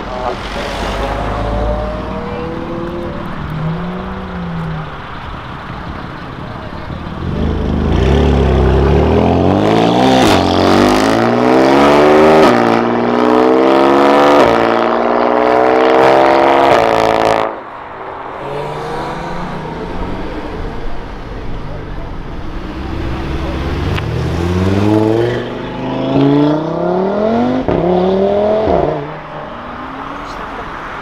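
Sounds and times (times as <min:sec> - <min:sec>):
car engine accelerating hard: 0:00.0 - 0:30.7.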